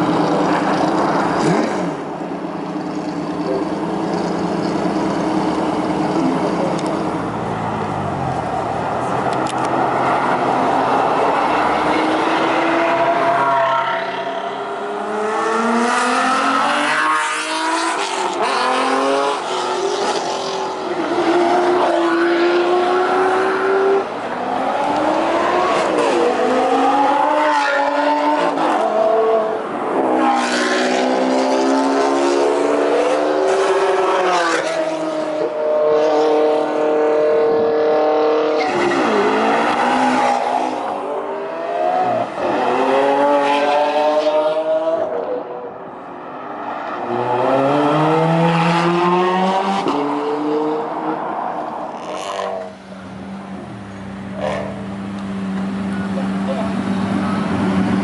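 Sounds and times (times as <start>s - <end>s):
supercar engines revving and accelerating: 0.0s - 58.0s.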